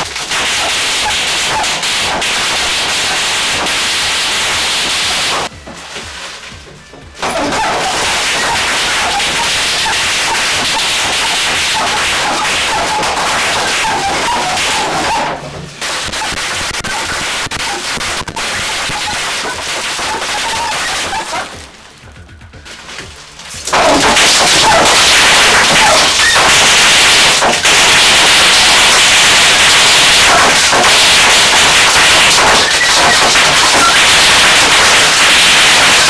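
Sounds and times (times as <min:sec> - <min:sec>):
bubble wrap popping: 0:05.3 - 0:06.6, 0:07.2 - 0:36.0.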